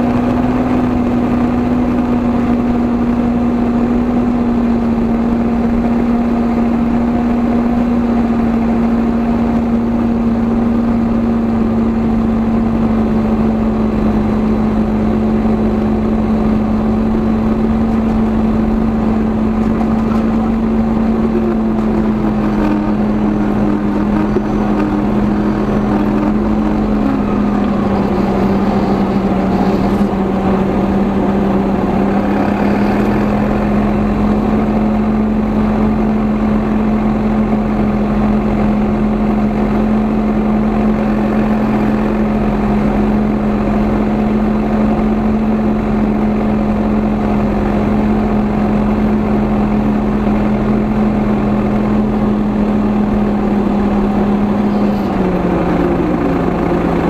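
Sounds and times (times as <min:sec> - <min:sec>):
steady drivetrain whine: 0:00.0 - 0:57.0
tractor diesel engine running: 0:00.0 - 0:57.0.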